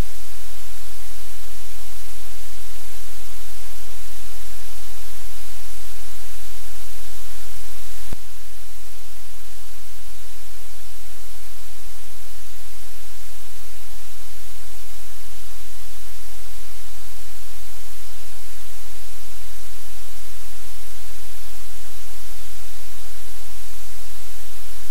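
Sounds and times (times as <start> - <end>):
loud static hiss: 0.0 - 24.9.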